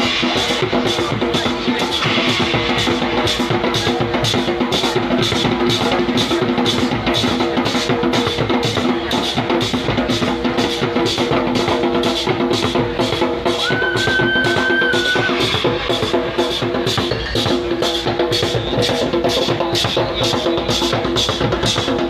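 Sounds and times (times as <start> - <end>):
drum kit beat: 0.0 - 22.0
hand drums: 0.0 - 22.0.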